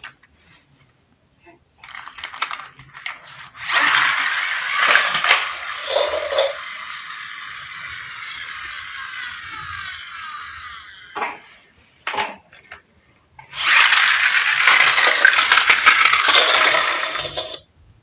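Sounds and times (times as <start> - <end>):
toy car wheels rattling and whirring: 1.8 - 12.2, 13.5 - 17.7.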